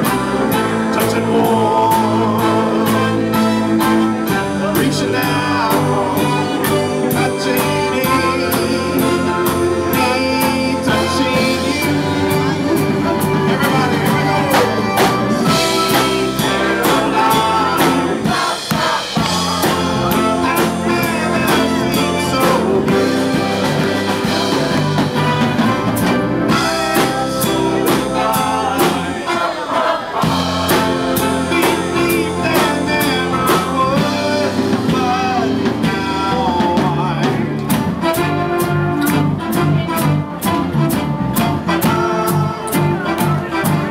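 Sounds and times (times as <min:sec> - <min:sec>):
drums keeping steady beat: 0:00.0 - 0:43.9
live band playing upbeat song: 0:00.0 - 0:43.9.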